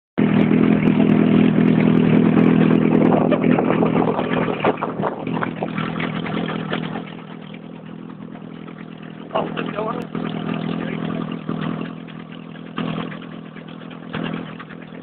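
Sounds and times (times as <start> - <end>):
boat engine running: 0.2 - 15.0.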